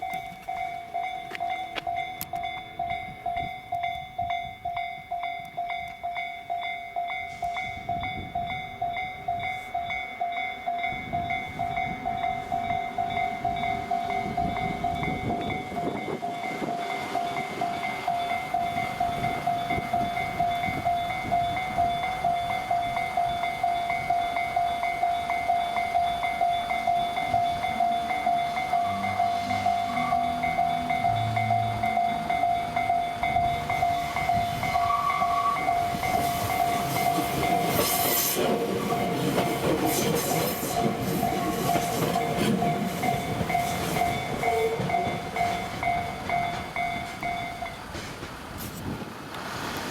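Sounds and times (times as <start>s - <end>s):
level-crossing bell dinging: 0.0s - 48.0s
electric train passing: 0.0s - 49.9s.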